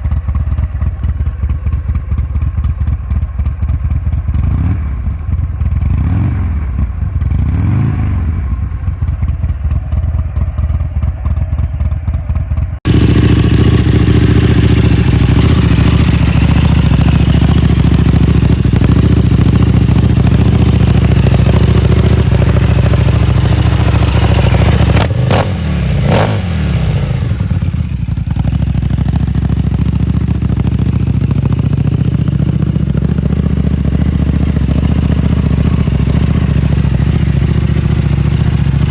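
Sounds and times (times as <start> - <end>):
motorcycle engine running steady: 0.0 - 38.9
motorcycle engine throttle blips: 0.0 - 38.9.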